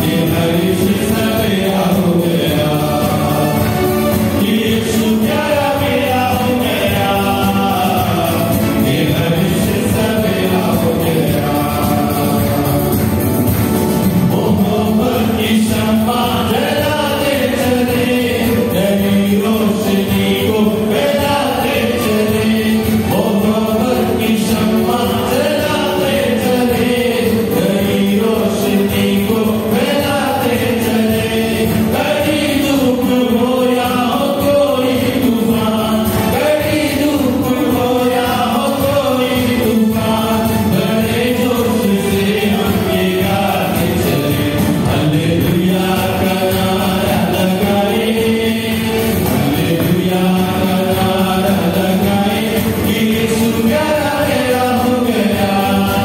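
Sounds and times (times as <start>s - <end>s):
choir singing a devotional song: 0.0s - 56.0s.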